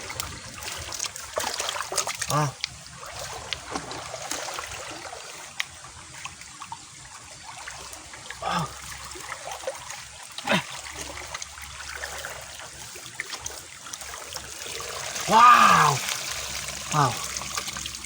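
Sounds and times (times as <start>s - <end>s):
muddy water trickling and splashing: 0.0s - 18.0s.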